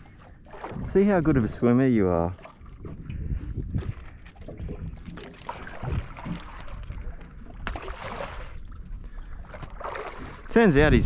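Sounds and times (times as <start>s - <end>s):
water lapping against boat hull: 0.0s - 11.0s
wind over open water: 0.0s - 11.0s.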